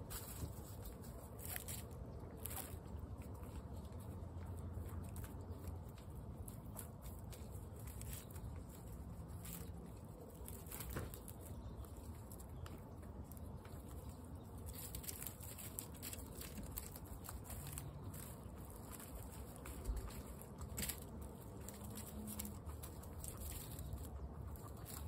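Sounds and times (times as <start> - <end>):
guinea pigs rustling in straw: 0.0 - 25.0.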